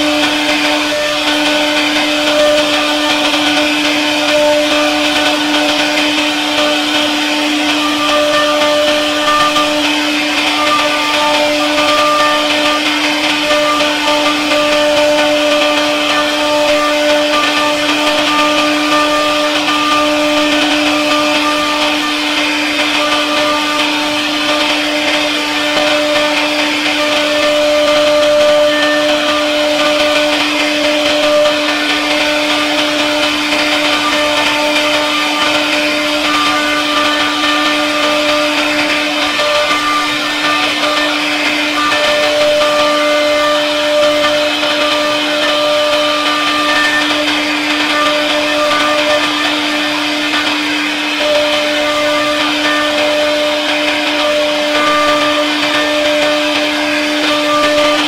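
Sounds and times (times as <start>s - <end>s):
router spindle whining: 0.0s - 58.0s.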